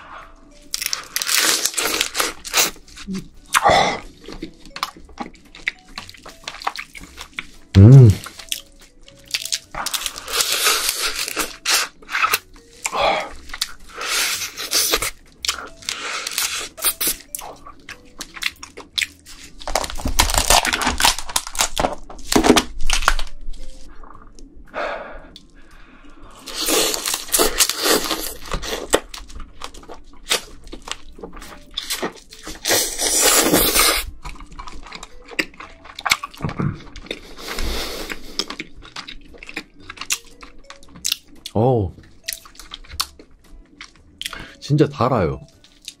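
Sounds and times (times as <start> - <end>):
chewing: 0.5 - 20.8, 25.3 - 44.6, 45.4 - 46.0
crab shell crunching: 0.6 - 24.5, 26.4 - 44.5.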